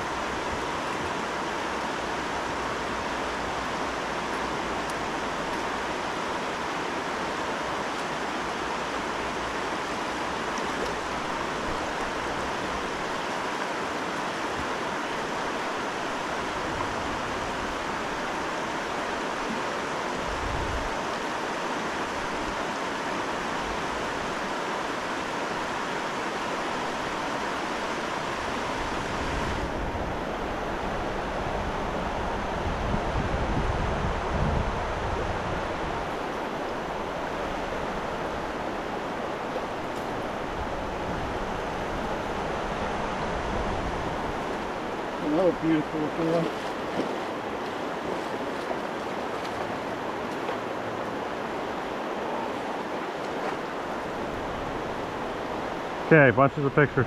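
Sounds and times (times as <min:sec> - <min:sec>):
river current rushing: 0:00.0 - 0:57.0.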